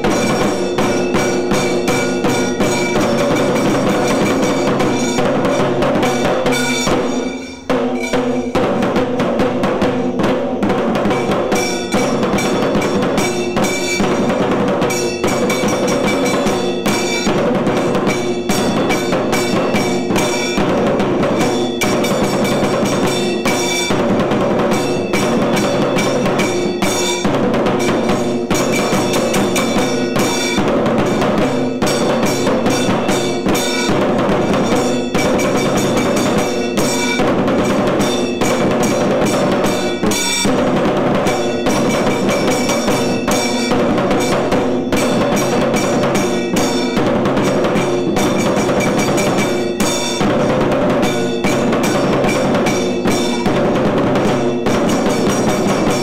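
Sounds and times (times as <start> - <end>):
barrel drums beaten fast: 0.0 - 56.0
hand cymbals clanging: 0.0 - 56.0.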